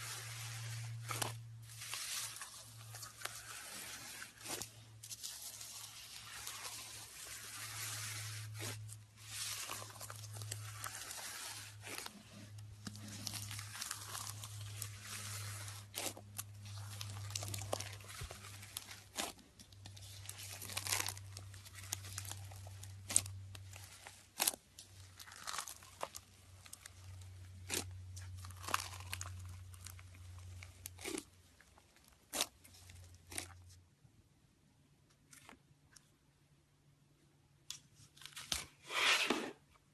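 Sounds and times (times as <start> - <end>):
slime crackling and popping: 0.0 - 33.6.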